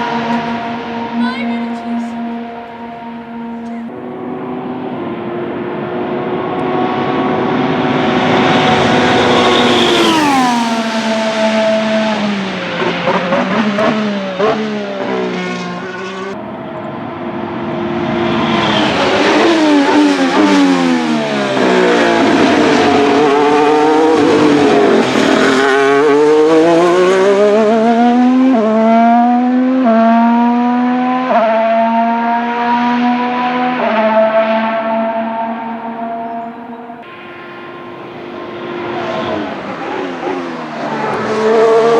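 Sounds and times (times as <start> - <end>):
racing car engine at speed: 0.0 - 41.9.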